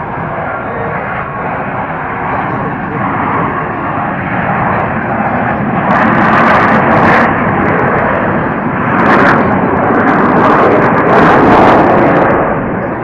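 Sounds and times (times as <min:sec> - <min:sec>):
jet engines roaring past: 0:00.0 - 0:13.0.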